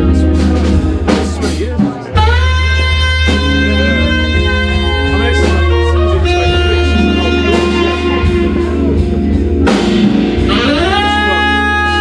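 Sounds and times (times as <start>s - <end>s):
bass: 0.0s - 12.0s
drums: 0.0s - 12.0s
organ chords: 0.0s - 12.0s
tenor saxophone long notes: 2.1s - 12.0s.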